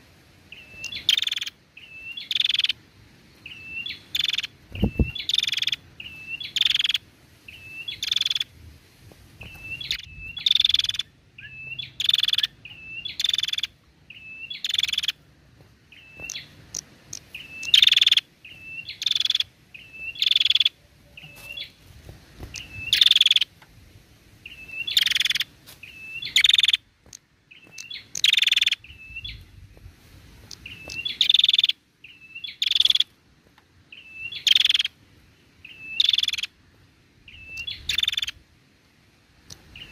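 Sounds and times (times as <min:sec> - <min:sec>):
bird chirping and buzzing: 0:00.5 - 0:08.5, 0:09.4 - 0:23.6, 0:24.4 - 0:29.8, 0:30.4 - 0:33.2, 0:33.9 - 0:38.4, 0:39.5 - 0:39.9.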